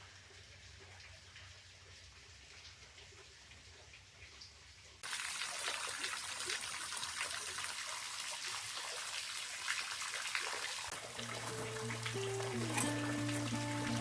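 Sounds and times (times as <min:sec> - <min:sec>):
small drips pattering: 0:00.0 - 0:14.0
water trickling and splashing: 0:00.0 - 0:14.0.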